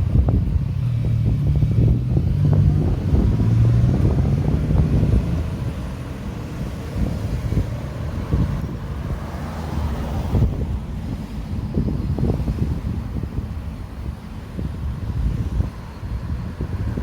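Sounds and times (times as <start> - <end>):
vehicle engine humming: 0.0 - 17.0
wind buffeting microphone: 0.0 - 17.0.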